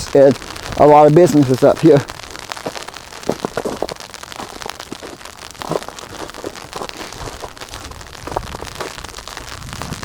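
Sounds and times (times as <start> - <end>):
sleet ticking on surfaces: 0.0 - 10.0.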